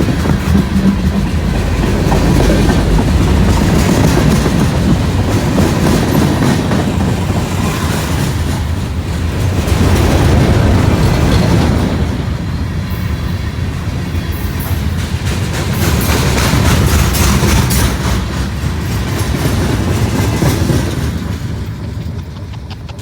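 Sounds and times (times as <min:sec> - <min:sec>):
freight train cars rolling past: 0:00.0 - 0:23.0.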